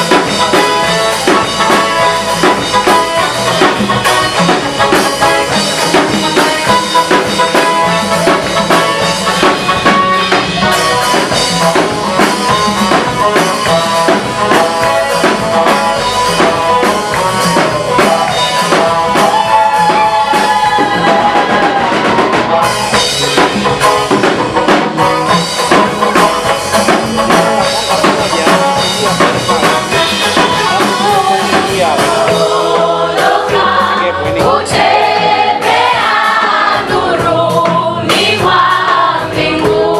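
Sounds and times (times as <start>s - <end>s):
gospel music with drum kit: 0.0s - 39.9s.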